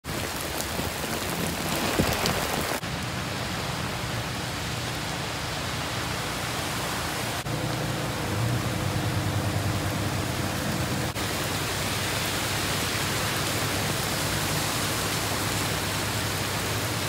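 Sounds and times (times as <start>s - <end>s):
car tyres swishing through water: 0.0s - 17.0s
heavy rain pouring: 0.0s - 17.0s
running water: 0.0s - 17.0s.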